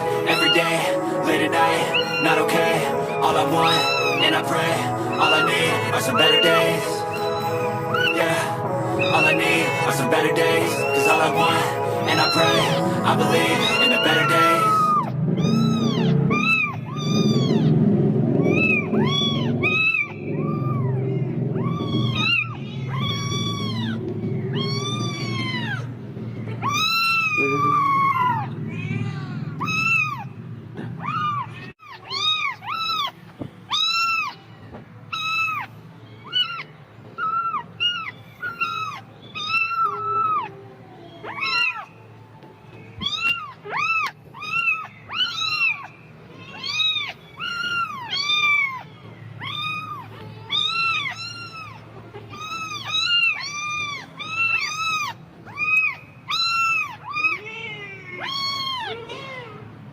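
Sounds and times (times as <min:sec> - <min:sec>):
kitten meowing: 0:00.3 - 0:00.8, 0:01.9 - 0:04.4, 0:05.1 - 0:05.6, 0:06.2 - 0:08.2, 0:12.1 - 0:12.8, 0:13.4 - 0:17.7, 0:18.4 - 0:21.0, 0:21.6 - 0:25.9, 0:26.5 - 0:30.4, 0:31.0 - 0:41.9, 0:43.0 - 0:59.6.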